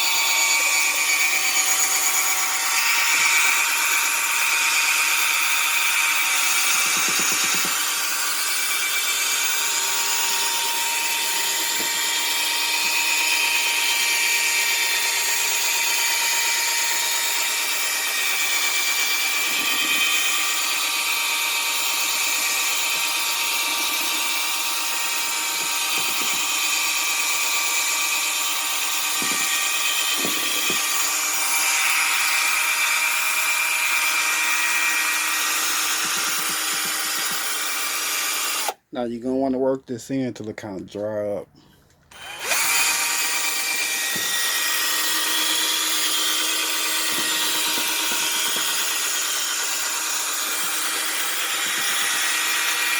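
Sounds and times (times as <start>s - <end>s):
electric drill whining: 0.0s - 38.9s, 42.1s - 52.9s.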